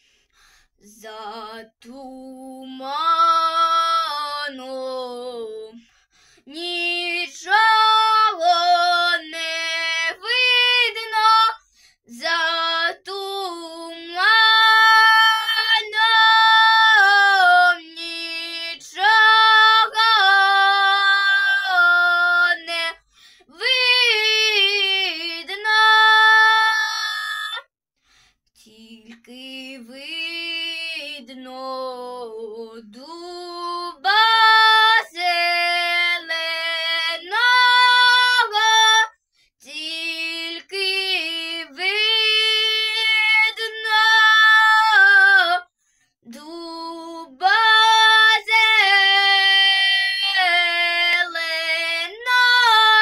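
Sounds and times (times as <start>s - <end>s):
girl singing unaccompanied: 0.8s - 5.8s, 6.5s - 27.6s, 28.6s - 53.0s.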